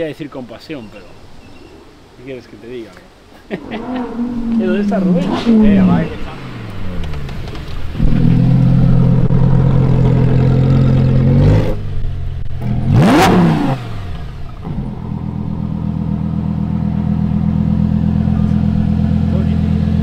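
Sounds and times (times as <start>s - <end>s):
sports car engine revving: 3.6s - 20.0s.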